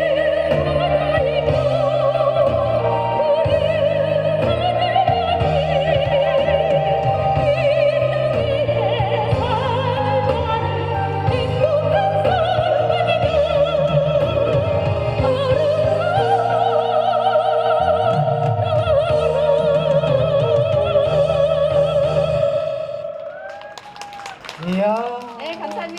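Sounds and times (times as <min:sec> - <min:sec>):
instrumental backing: 0:00.0 - 0:23.0
person singing with vibrato: 0:00.0 - 0:23.3.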